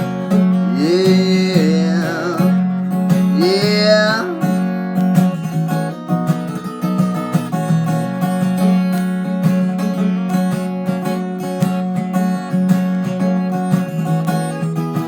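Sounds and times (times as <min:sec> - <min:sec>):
acoustic guitar strumming: 0:00.0 - 0:15.0
sliding guitar melody: 0:00.0 - 0:15.0.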